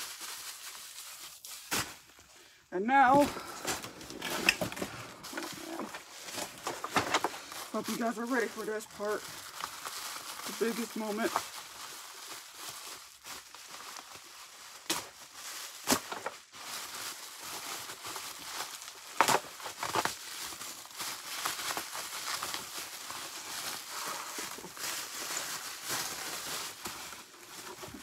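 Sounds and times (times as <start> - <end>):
packaging crinkling and rustling: 0.0 - 2.3, 3.0 - 28.0.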